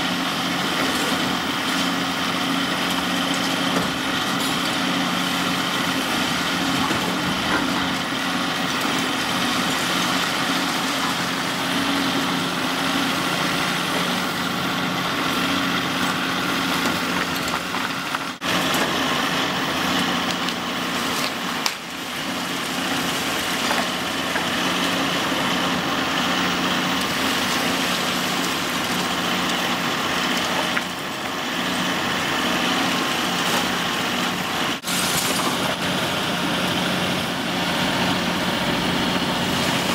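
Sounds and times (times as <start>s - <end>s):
excavator diesel engine hum: 0.0s - 39.9s.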